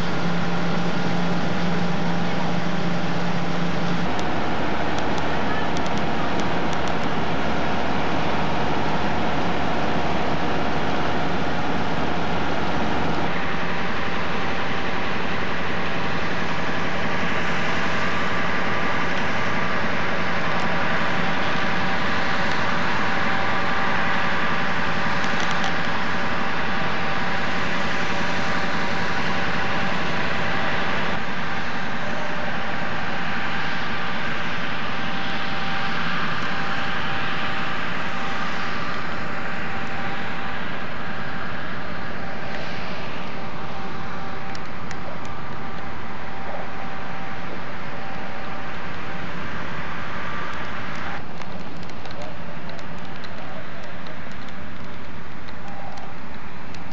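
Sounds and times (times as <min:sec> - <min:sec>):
engine running with hum and whine: 0:00.0 - 0:56.9.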